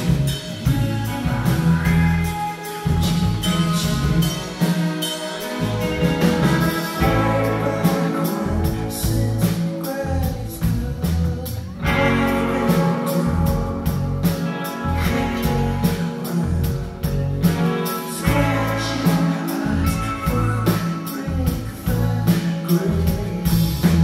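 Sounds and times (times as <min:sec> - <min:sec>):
sustained guitar chords: 0:00.0 - 0:10.9, 0:11.7 - 0:22.3
bass guitar: 0:00.0 - 0:24.0
drum kit steady beat: 0:00.0 - 0:24.0
person singing: 0:00.0 - 0:24.0.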